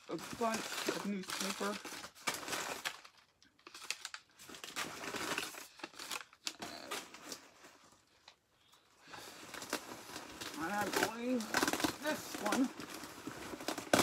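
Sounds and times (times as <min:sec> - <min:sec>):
newspaper rustling and crinkling: 0:00.0 - 0:08.4, 0:09.1 - 0:14.0.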